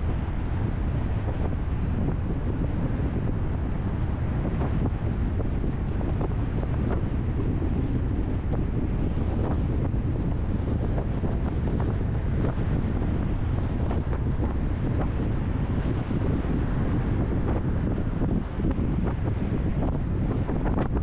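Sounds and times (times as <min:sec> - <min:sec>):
car rumble: 0:00.0 - 0:21.0
road and wind noise: 0:00.0 - 0:21.0.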